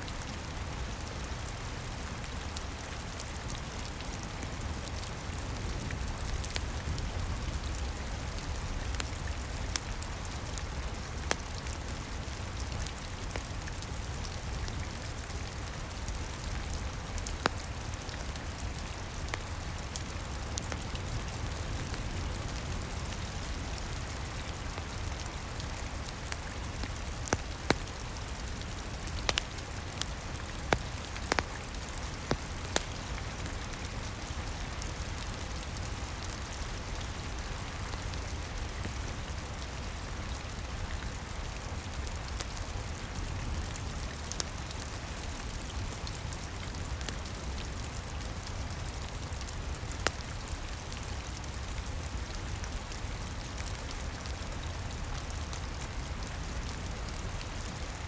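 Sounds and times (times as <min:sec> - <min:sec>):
rain hiss with low rumble: 0:00.0 - 0:58.0
fireplace crackling and popping: 0:00.2 - 0:58.0.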